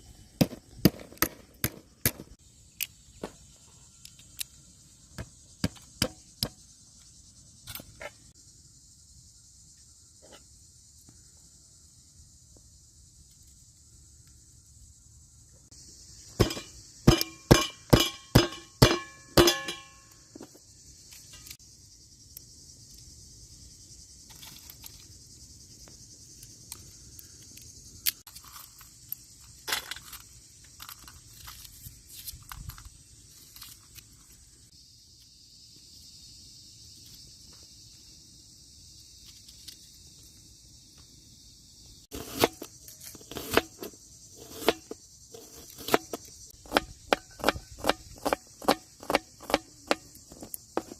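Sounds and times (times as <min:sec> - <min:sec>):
high insect buzz: 0:00.0 - 0:50.9.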